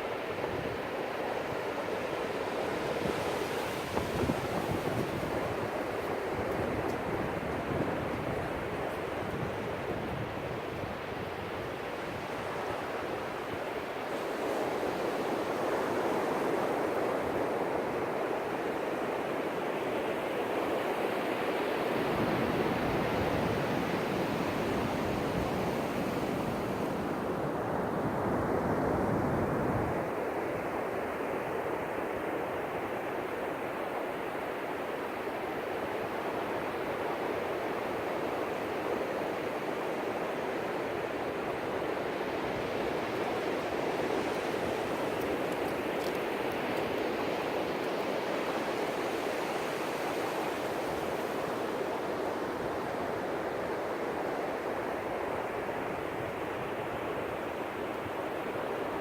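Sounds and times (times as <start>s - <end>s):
ocean surf washing onto beach: 0.0s - 59.0s.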